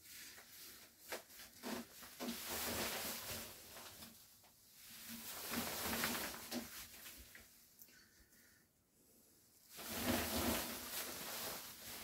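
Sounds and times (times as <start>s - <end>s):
rain poncho rustling: 0.0s - 7.6s, 9.7s - 12.0s.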